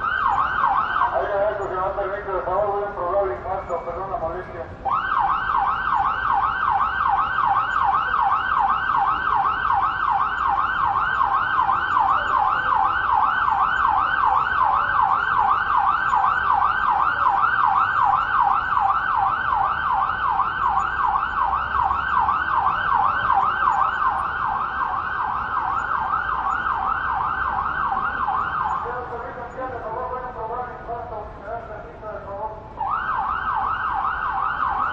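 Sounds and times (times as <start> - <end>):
emergency siren yelping: 0.0 - 31.4, 32.2 - 34.9.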